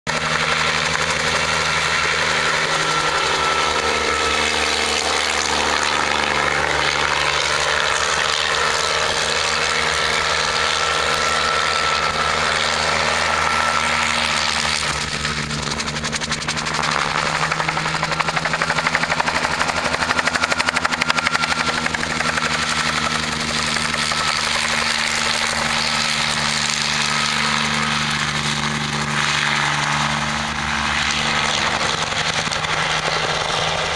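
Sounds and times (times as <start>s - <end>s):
helicopter piston engine: 0.1s - 33.9s
helicopter rotor beat: 0.1s - 33.9s.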